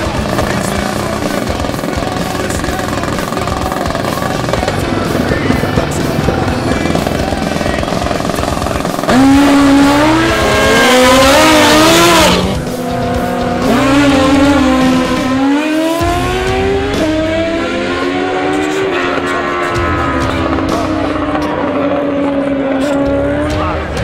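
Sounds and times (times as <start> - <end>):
motorcycle engine revving hard: 0.0 - 24.0.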